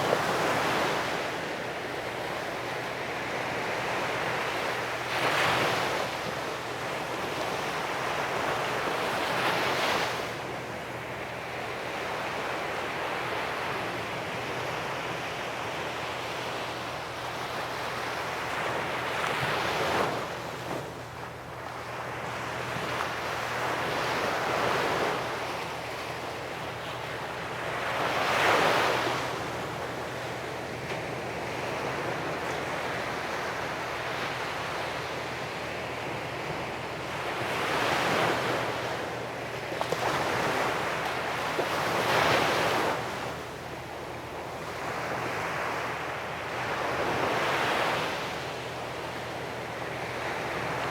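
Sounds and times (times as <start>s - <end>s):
waves breaking on shore: 0.0s - 50.9s.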